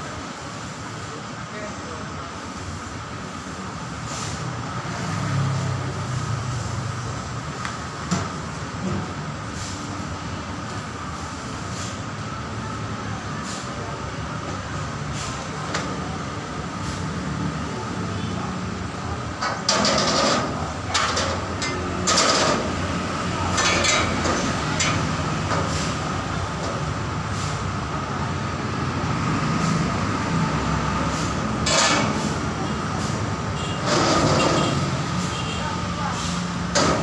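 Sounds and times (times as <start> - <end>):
idling engines hum: 0.0 - 37.0.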